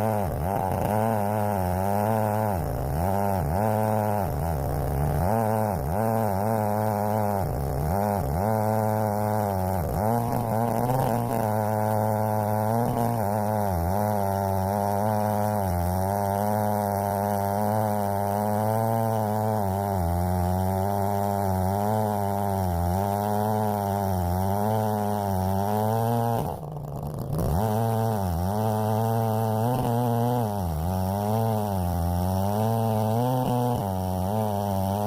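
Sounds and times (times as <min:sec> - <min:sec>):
chainsaw cutting through log: 0:00.0 - 0:35.0.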